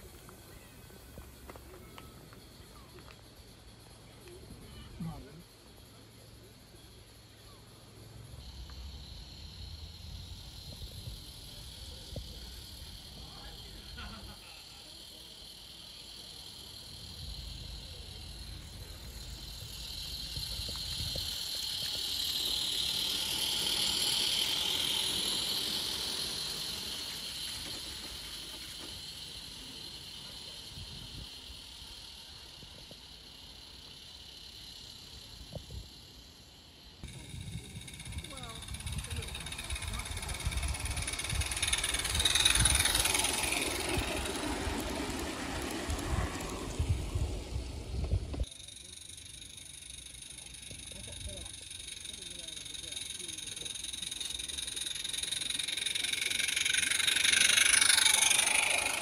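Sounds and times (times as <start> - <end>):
model steam locomotive hissing: 0.0 - 59.0.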